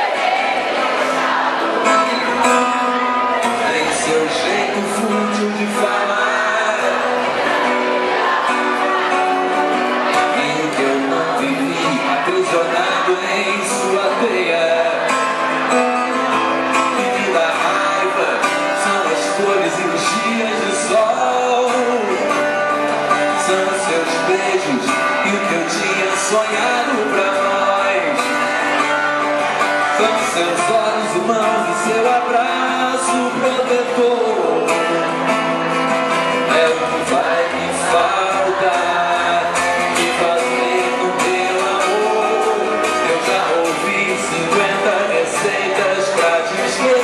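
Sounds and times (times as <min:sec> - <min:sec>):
guitar playing: 0:00.0 - 0:47.0
man singing: 0:01.6 - 0:47.0.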